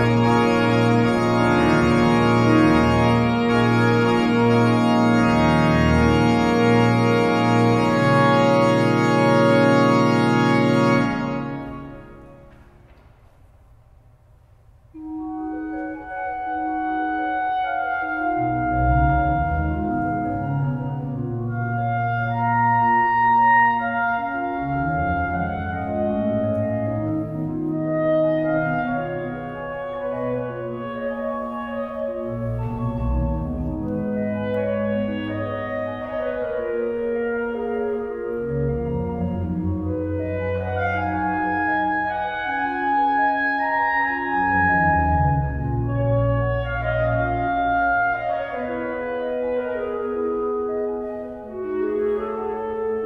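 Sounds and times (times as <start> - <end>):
clarinet: 0.0 - 12.7, 14.9 - 53.0
church pipe organ chords: 0.0 - 13.5, 14.9 - 53.0.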